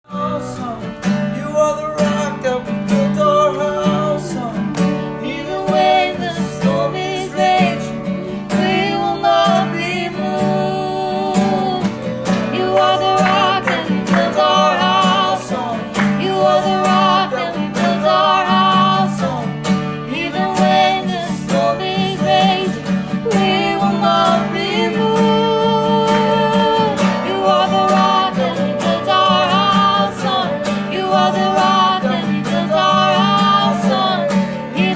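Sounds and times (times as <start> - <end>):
person singing: 0.0 - 34.9
strummed acoustic guitar: 0.1 - 34.9.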